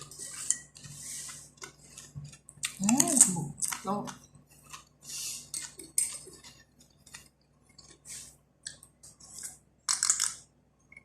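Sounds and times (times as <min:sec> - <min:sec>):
crunchy flatbread chewing: 0:00.4 - 0:02.9, 0:03.6 - 0:10.1.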